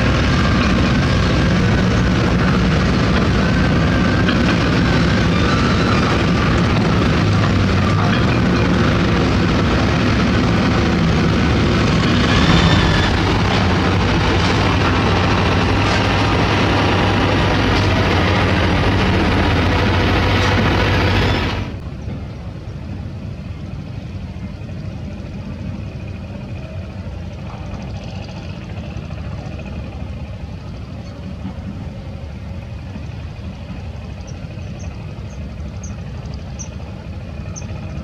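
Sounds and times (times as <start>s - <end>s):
diesel machinery engine drone: 0.0s - 38.0s.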